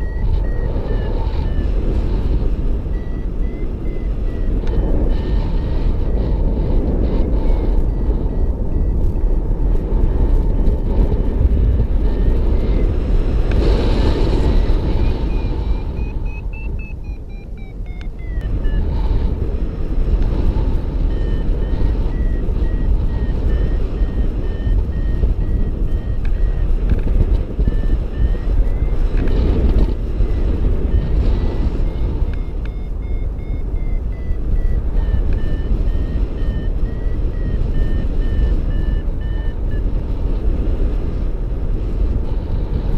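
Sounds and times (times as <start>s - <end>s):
high-pitched variometer beeping: 0.0s - 42.2s
wind rushing over microphone: 0.0s - 42.9s.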